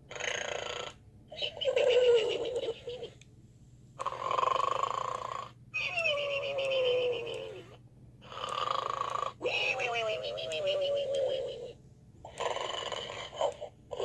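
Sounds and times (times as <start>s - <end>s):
toy pig snoring: 0.1s - 3.0s, 4.0s - 5.6s, 6.4s - 14.0s.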